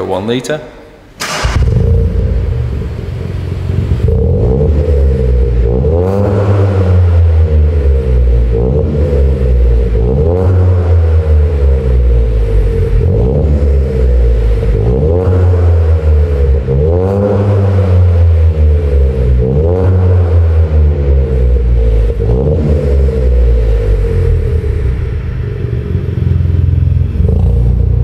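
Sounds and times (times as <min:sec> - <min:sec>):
car engine revving: 0:01.2 - 0:28.0.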